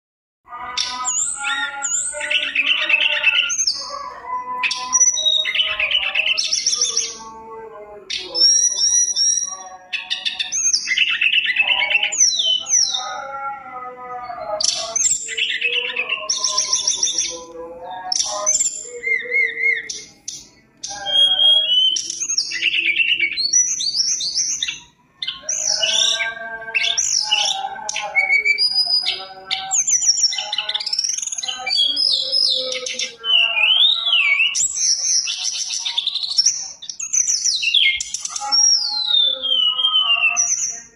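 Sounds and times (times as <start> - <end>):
songbird singing: 0.5 - 40.9.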